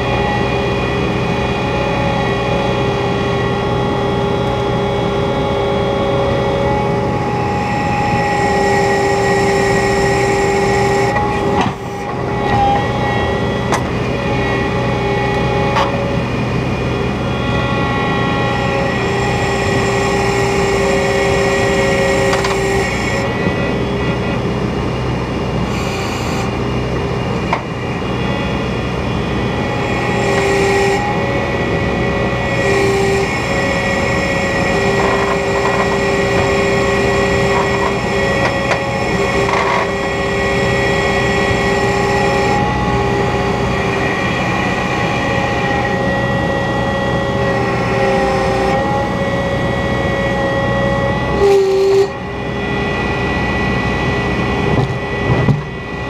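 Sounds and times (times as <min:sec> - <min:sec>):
skid steer engine drone: 0:00.0 - 0:56.0
whining tones: 0:00.0 - 0:56.0.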